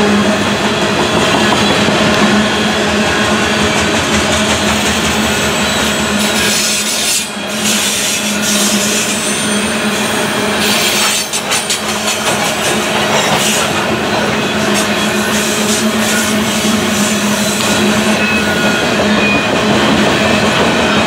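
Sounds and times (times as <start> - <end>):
train wheels rasping on rails: 0.0 - 21.0.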